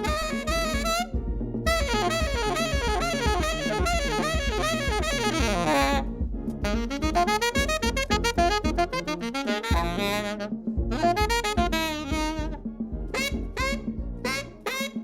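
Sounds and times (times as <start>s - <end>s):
bass line: 0.0s - 15.0s
saxophone playing quick runs: 0.0s - 15.0s.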